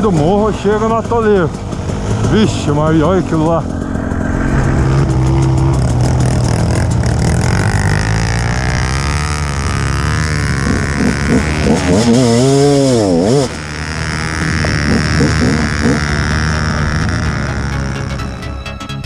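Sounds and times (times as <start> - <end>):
dirt bike engines revving: 0.0 - 18.6.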